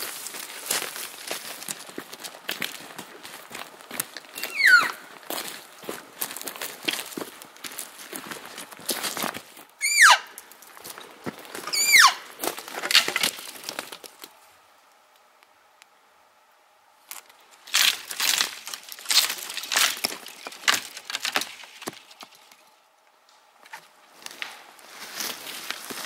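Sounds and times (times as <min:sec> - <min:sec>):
footsteps crunching on twigs: 0:00.0 - 0:14.5, 0:17.0 - 0:22.8, 0:23.6 - 0:26.0.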